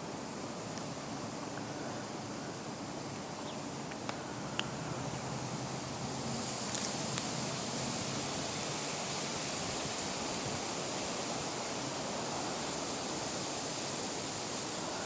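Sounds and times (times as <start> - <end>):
wind blowing across microphone: 0.2 - 15.0.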